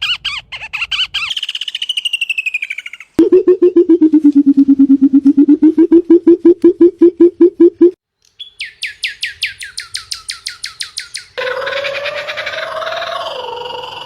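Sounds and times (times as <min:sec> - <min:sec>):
bird high chirps sweeping downward: 0:00.0 - 0:14.0.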